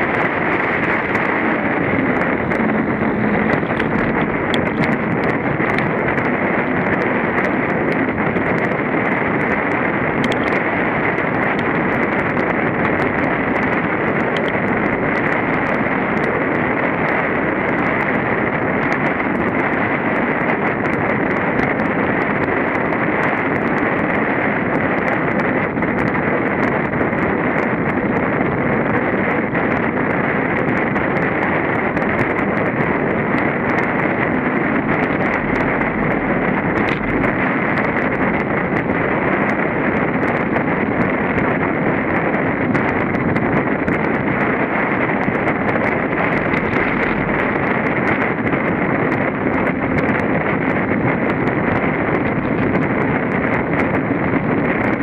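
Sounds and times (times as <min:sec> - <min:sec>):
knobby tyre noise: 0:00.0 - 0:55.0
wind on microphone: 0:00.0 - 0:55.0.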